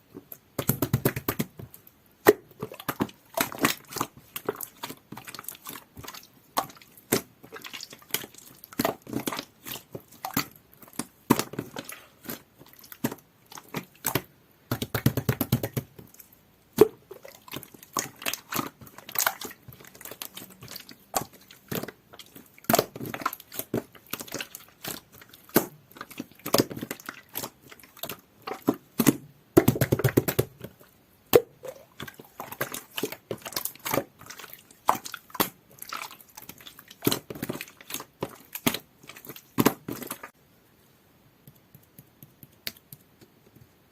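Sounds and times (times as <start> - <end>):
slime squelching: 0.0 - 40.4.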